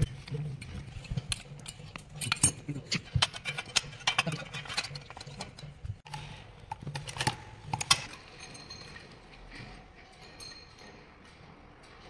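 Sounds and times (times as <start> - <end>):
metallic clicks and clinks of spanners: 0.0 - 12.0.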